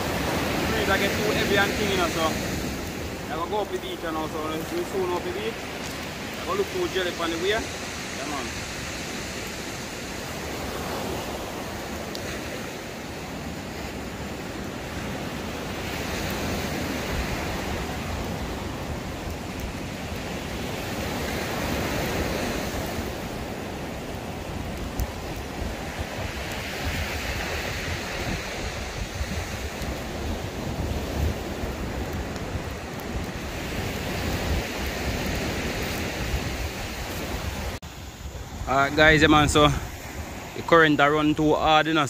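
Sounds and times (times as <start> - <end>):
wind buffeting microphone: 0.0 - 41.6
surf on pebble beach: 0.0 - 42.0.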